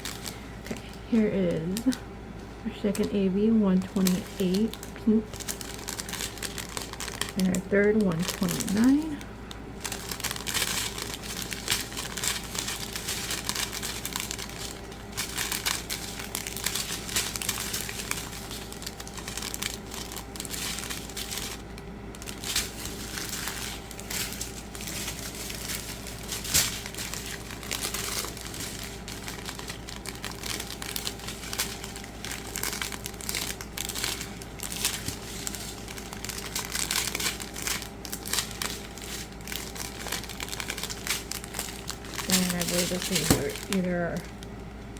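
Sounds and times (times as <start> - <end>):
plastic bags crinkling: 0.0 - 2.0, 2.7 - 44.9.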